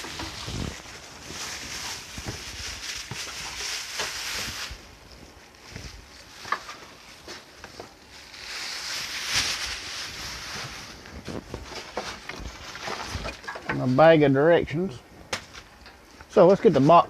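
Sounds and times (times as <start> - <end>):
cardboard and plastic rustling: 0.0 - 14.2.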